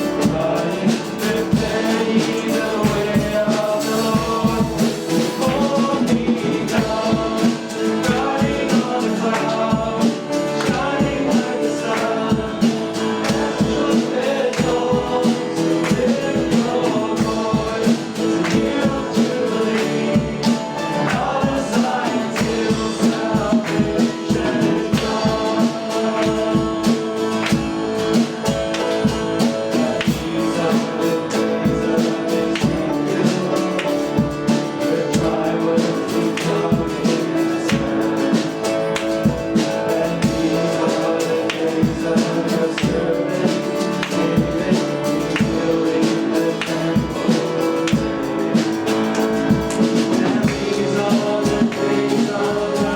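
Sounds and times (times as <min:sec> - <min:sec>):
guitar: 0:00.0 - 0:52.9
people singing: 0:00.0 - 0:52.9
steady drum beat: 0:00.0 - 0:52.9.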